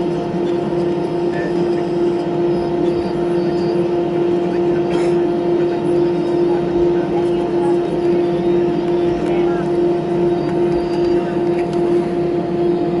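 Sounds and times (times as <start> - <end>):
jet engine drone in cabin: 0.0 - 13.0.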